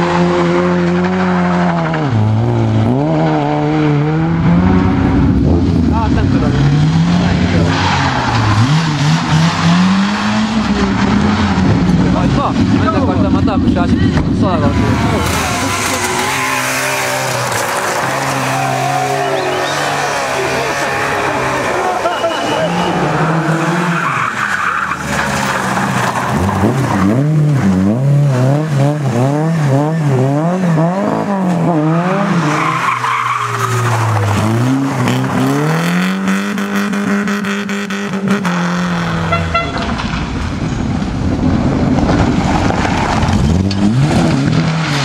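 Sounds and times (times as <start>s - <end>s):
rally car engines revving: 0.0s - 45.0s
tyres skidding: 0.0s - 45.0s.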